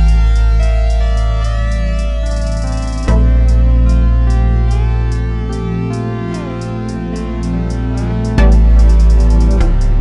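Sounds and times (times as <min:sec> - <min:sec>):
heavy low drum beat: 0:00.0 - 0:05.6, 0:06.8 - 0:10.0
light ticking beat: 0:00.0 - 0:10.0
soft sustained instrumental tones: 0:00.0 - 0:10.0.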